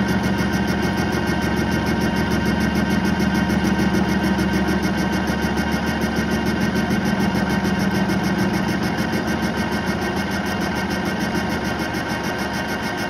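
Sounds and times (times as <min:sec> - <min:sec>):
metal lathe running: 0:00.0 - 0:13.0.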